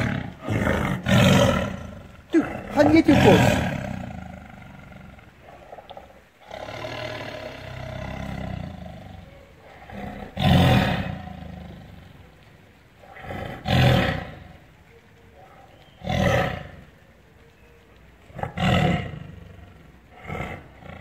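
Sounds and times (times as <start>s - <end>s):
tiger roaring: 0.0s - 14.7s, 15.4s - 17.0s, 18.3s - 21.0s.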